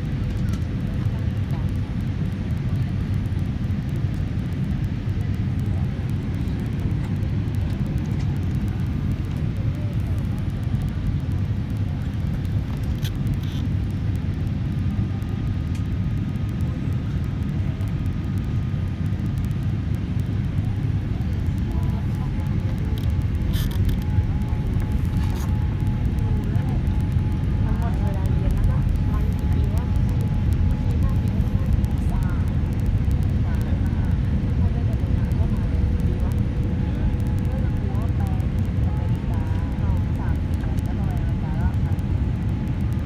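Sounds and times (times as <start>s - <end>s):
airliner engines rumbling: 0.0s - 43.0s
faint clicks: 0.0s - 43.0s.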